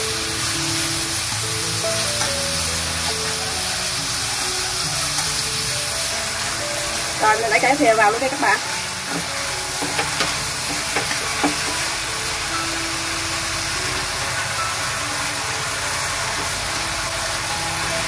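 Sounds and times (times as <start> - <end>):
vegetables sizzling in a wok: 0.0 - 18.0.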